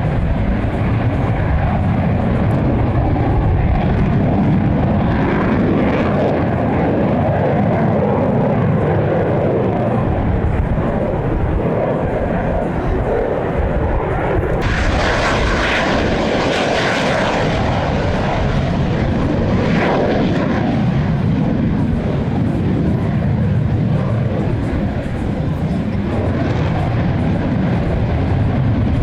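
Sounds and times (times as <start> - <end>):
aircraft engine roar: 0.0 - 29.0.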